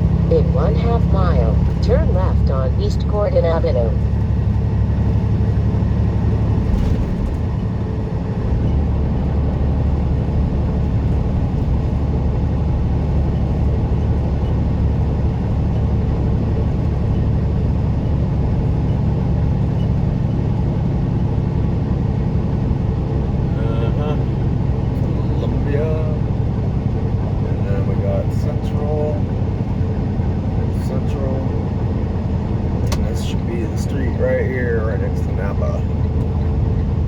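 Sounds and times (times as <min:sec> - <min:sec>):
truck engine rumbling: 0:00.0 - 0:37.0.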